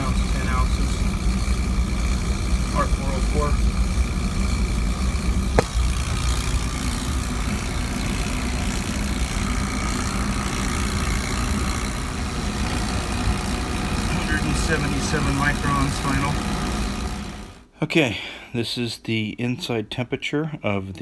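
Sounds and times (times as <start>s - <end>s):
motor humming: 0.0s - 17.6s.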